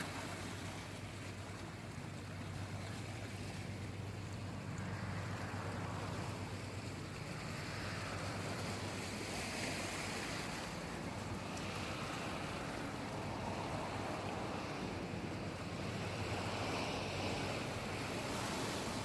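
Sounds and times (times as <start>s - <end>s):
sea waves washing in: 0.0s - 19.0s
wind rumble on microphone: 0.0s - 19.0s.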